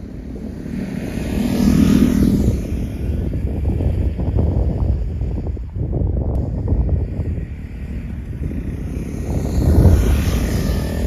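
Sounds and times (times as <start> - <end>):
motorcycle riding past: 0.0 - 5.4, 6.6 - 11.0
wind buffeting microphone: 0.0 - 11.0.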